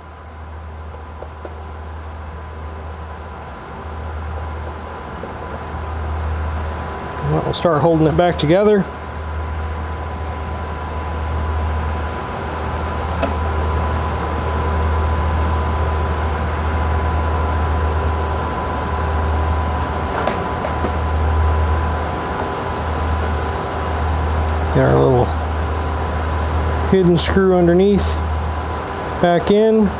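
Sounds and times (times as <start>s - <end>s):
cooling fans whirring: 0.0s - 29.9s
steady high-pitched tone: 1.8s - 29.9s.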